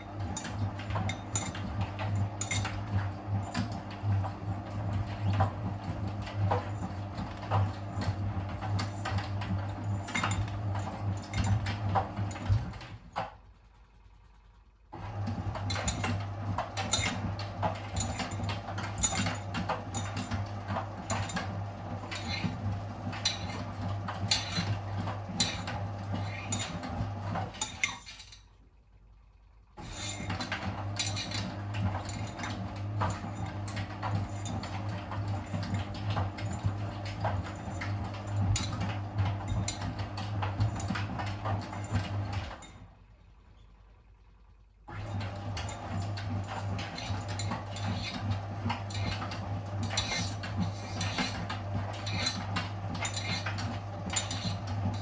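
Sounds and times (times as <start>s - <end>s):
washing machine motor humming: 0.0s - 55.0s.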